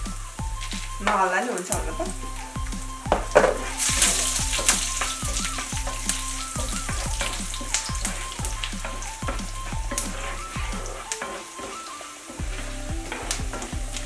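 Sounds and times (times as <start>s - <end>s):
soft background music with beat: 0.0s - 14.0s
spices sizzling in hot oil: 0.0s - 14.0s
wooden spoon tapping a pan: 0.6s - 14.0s.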